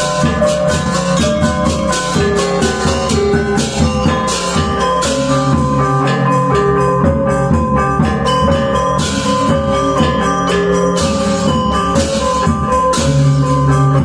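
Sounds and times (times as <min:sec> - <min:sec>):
crashing cymbals: 0:00.0 - 0:14.0
metallophones ringing: 0:00.0 - 0:14.0.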